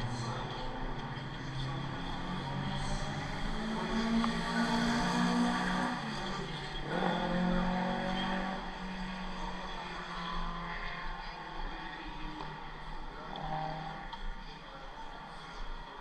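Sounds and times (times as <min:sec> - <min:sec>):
race car engine running: 0:00.0 - 0:14.4.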